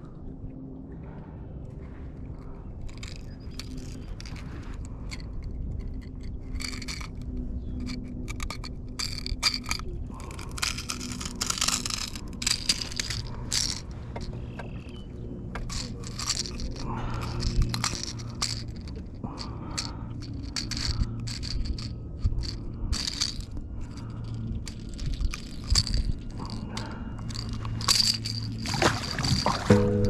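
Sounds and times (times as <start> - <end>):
low steady rumble: 0.0 - 30.0
gear scraping and rattling: 2.8 - 30.0.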